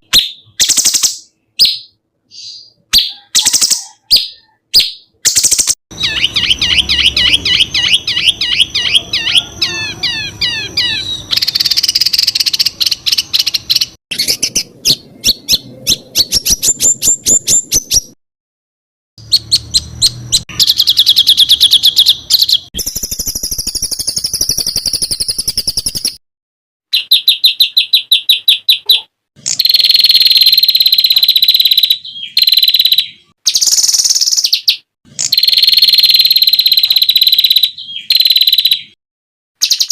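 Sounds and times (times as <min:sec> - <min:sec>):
long buzzy bird trill: 0:00.0 - 0:18.2, 0:19.2 - 0:26.1, 0:26.9 - 0:39.0
songbirds singing rapid phrases: 0:00.0 - 0:18.2, 0:19.2 - 0:26.2, 0:26.9 - 0:39.0, 0:39.6 - 0:39.9.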